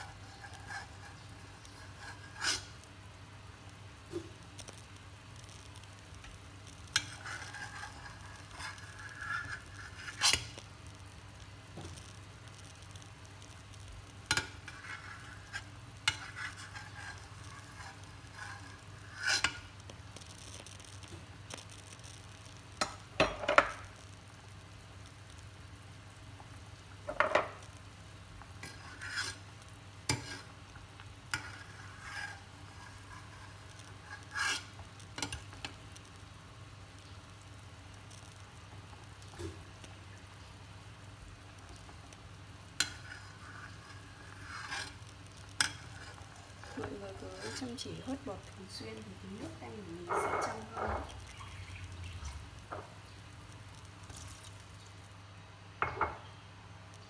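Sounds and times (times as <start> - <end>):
soup boiling and bubbling: 0.0 - 57.0.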